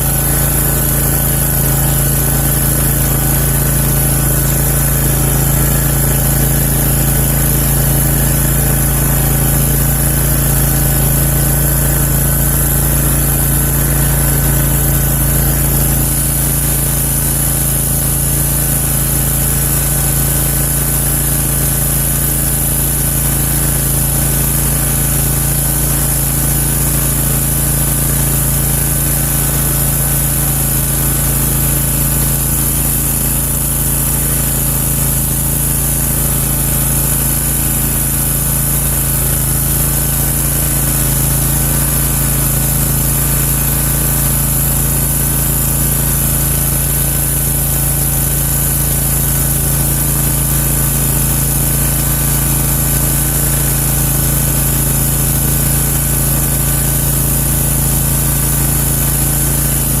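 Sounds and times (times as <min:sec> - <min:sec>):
lawn mower engine running: 0:00.0 - 1:00.0.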